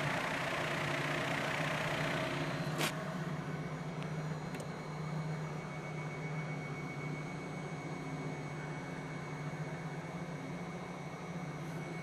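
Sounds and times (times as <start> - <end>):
centrifuge motor hum: 0.0 - 12.0.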